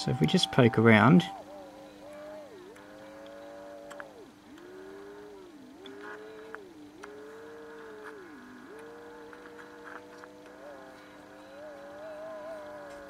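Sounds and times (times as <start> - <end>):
steady lower tone: 0.0 - 13.0.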